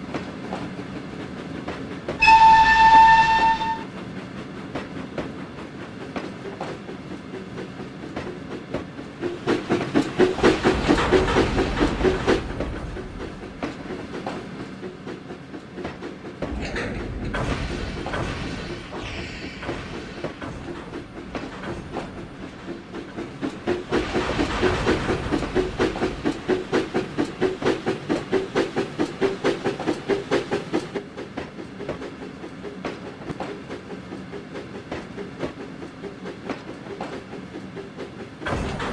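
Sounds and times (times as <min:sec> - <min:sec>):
train running on track: 0:00.0 - 0:38.9.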